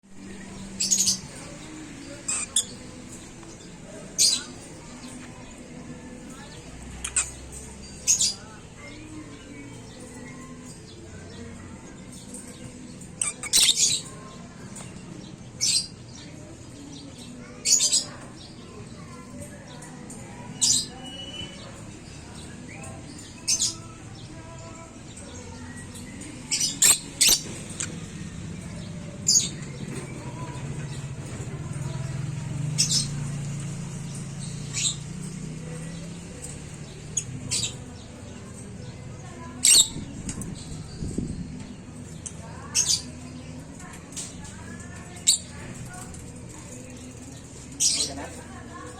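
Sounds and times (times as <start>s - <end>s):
lovebirds chirping: 0.0s - 48.9s.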